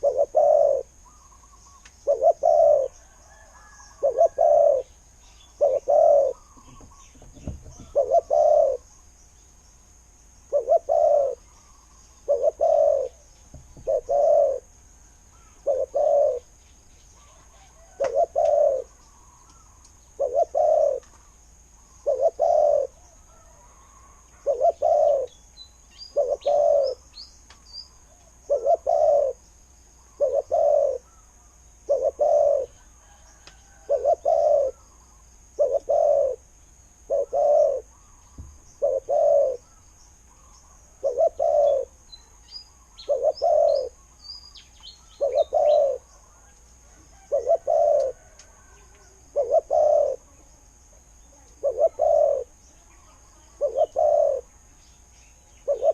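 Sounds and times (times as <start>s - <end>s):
dove cooing: 0.0s - 4.9s, 5.5s - 8.9s, 10.5s - 11.6s, 12.2s - 14.7s, 15.3s - 16.5s, 17.2s - 21.3s, 22.0s - 25.4s, 26.0s - 27.0s, 28.2s - 29.4s, 30.1s - 39.8s, 40.4s - 42.0s, 43.0s - 44.0s, 45.1s - 54.6s, 55.6s - 55.9s.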